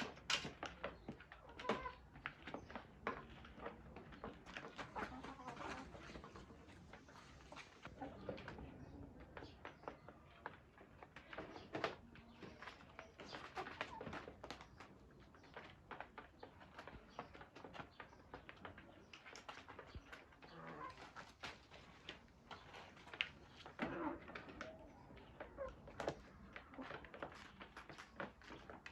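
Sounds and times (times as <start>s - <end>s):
chickens pecking: 0.0s - 28.9s.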